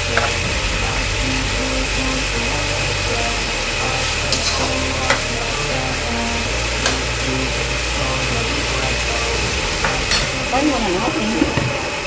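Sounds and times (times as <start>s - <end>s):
instrumental music with bass line: 0.0s - 12.0s
pork frying sizzle: 0.0s - 12.0s.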